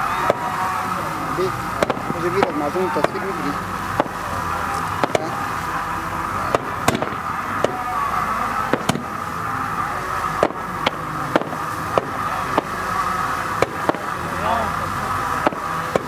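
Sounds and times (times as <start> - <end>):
background din: 0.0 - 16.0
fireworks bursting with bangs: 0.0 - 16.0.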